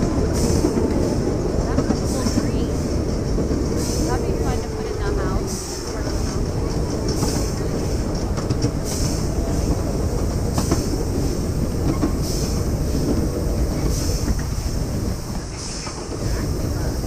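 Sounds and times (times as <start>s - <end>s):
train wheels clattering over rails: 0.0s - 17.0s.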